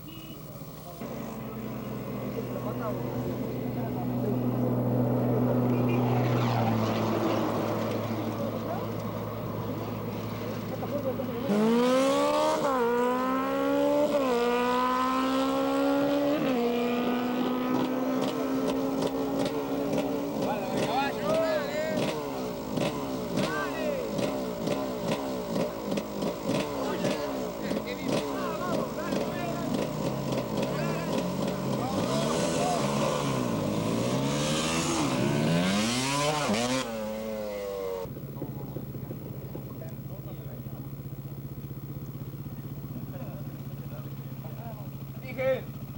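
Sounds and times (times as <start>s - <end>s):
racing motorcycle engine accelerating: 0.1s - 45.9s.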